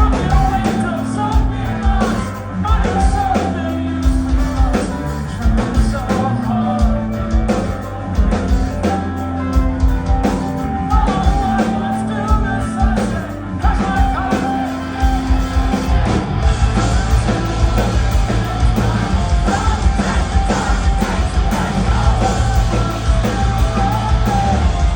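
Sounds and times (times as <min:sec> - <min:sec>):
bass and drums: 0:00.0 - 0:24.9
distorted guitars: 0:00.0 - 0:24.9.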